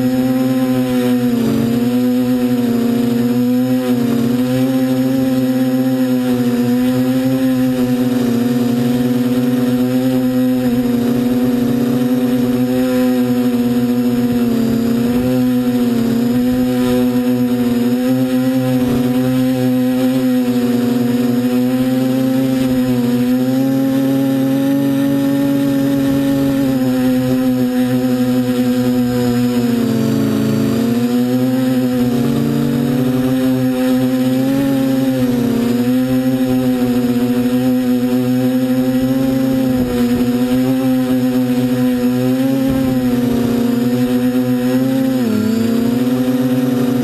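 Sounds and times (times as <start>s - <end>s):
quadcopter motors buzzing: 0.0s - 47.0s.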